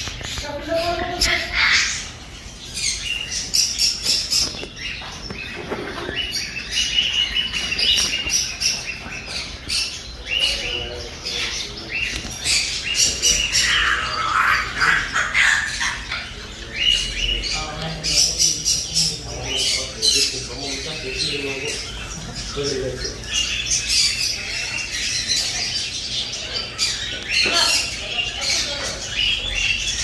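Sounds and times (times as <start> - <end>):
caged birds chirping and squawking: 0.0 - 30.0.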